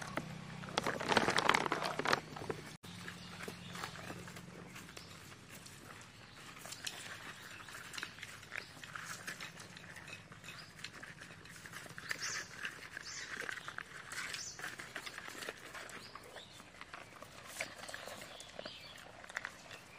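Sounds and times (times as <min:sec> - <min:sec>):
puppies chewing and smacking: 0:00.0 - 0:19.9.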